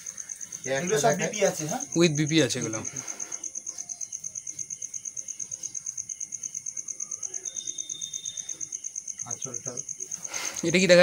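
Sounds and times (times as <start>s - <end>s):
insect trilling: 0.0s - 11.0s.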